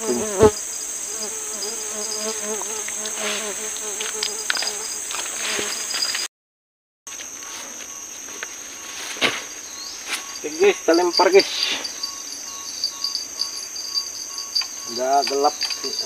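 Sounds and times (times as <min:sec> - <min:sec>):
high-pitched insect chorus: 0:00.0 - 0:06.3, 0:07.1 - 0:16.0.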